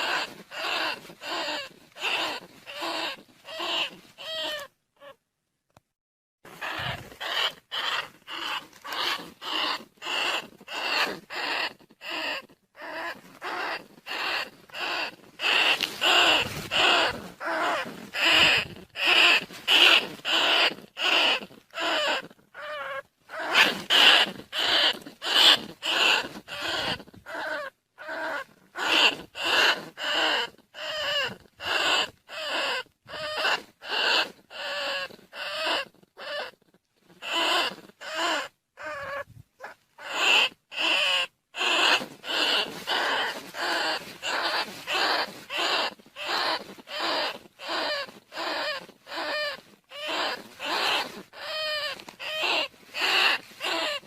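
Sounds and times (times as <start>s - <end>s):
rats squeaking: 0.0s - 5.2s, 6.5s - 54.0s.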